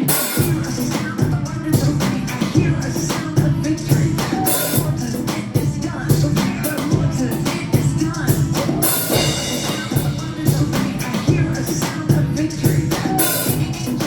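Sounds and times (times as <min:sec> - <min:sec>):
drum kit beat: 0:00.0 - 0:14.0
people singing worship song: 0:00.0 - 0:14.0.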